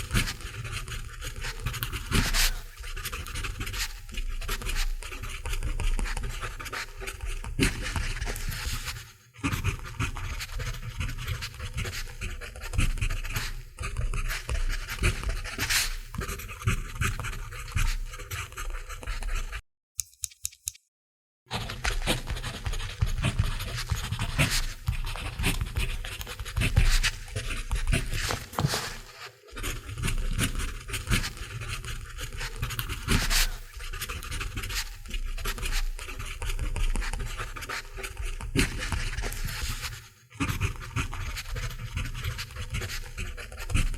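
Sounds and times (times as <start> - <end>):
pencil scratching on paper: 0.0 - 19.6, 21.5 - 43.9.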